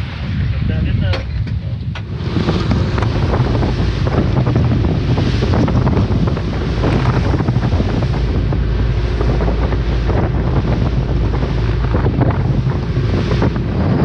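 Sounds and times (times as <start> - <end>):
boat engine drone: 0.0 - 14.0
wind buffeting microphone: 0.0 - 14.0
splashing wake: 2.0 - 14.0.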